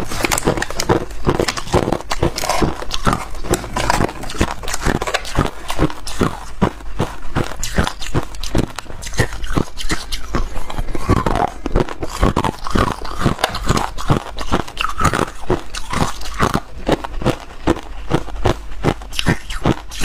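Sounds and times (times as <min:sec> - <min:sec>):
person chewing ice: 0:00.0 - 0:20.0.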